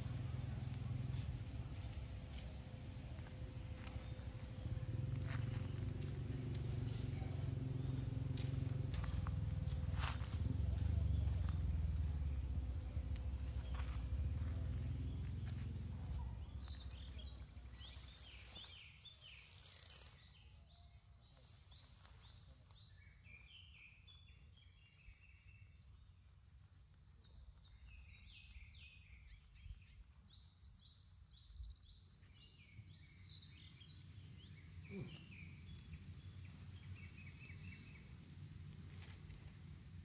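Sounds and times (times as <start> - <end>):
faint low rumble: 0.0 - 18.9, 24.7 - 40.0
small birds singing: 1.7 - 40.0.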